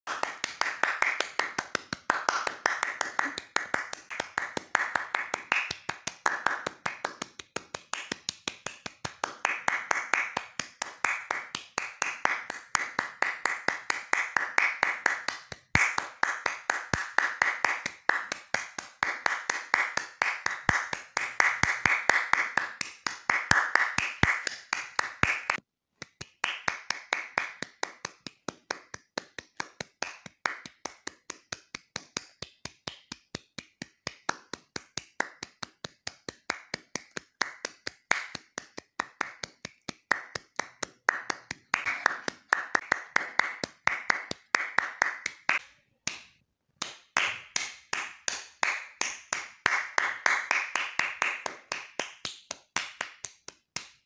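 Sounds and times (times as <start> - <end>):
hands clapping: 0.0 - 54.0.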